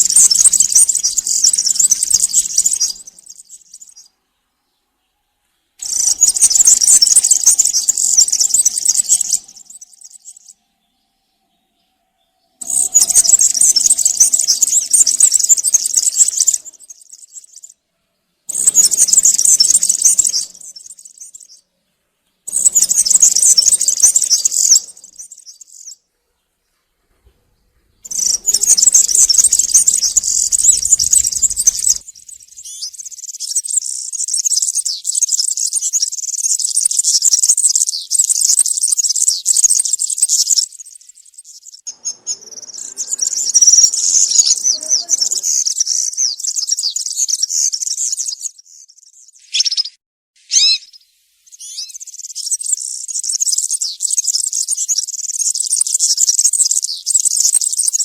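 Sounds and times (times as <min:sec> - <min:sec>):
bird singing jingling song: 0:00.0 - 0:04.2, 0:05.8 - 0:17.8, 0:18.5 - 0:21.7, 0:22.4 - 0:26.1, 0:28.0 - 0:58.0.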